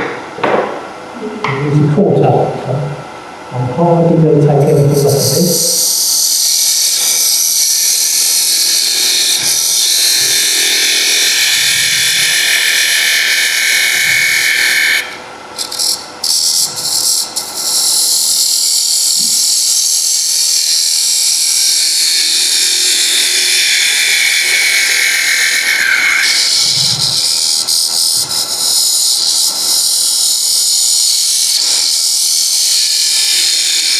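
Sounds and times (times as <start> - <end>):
wood lathe cutting hiss: 4.6 - 33.9.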